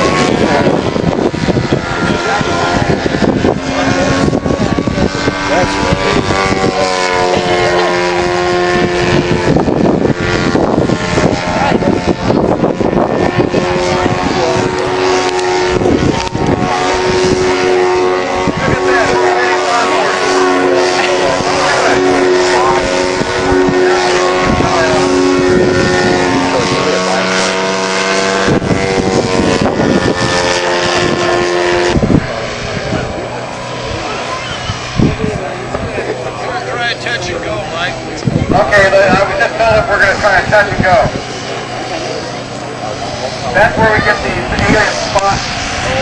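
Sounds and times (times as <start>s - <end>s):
model aircraft engine buzzing: 0.0s - 46.0s
wind buffeting microphone: 0.0s - 46.0s
rushing noise: 8.8s - 46.0s.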